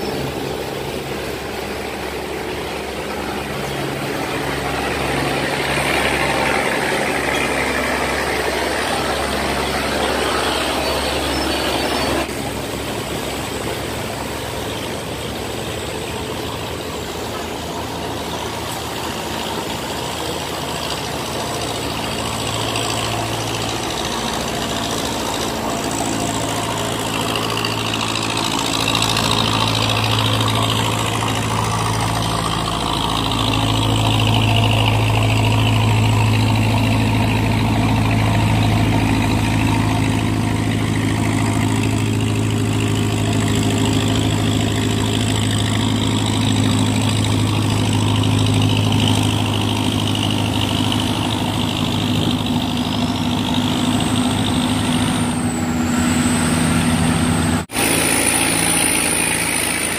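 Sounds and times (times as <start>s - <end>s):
boat engines running: 0.0s - 59.9s
rush of churned water: 0.0s - 59.9s.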